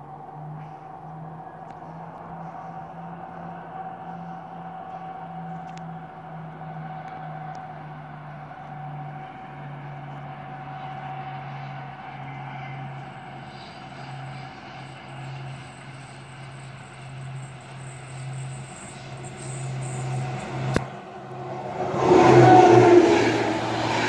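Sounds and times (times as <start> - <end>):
train low drone: 0.0 - 24.0.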